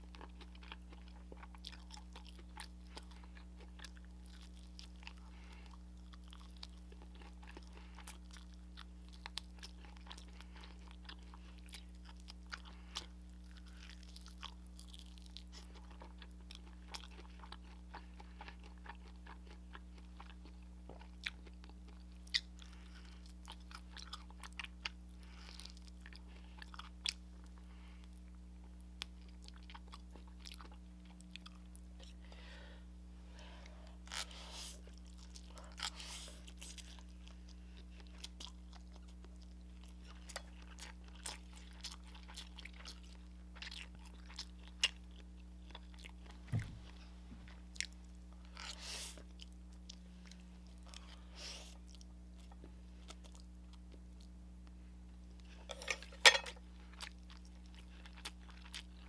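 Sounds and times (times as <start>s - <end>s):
chewing and crunching fried chicken: 0.0s - 59.0s
low electrical hum: 0.0s - 59.0s.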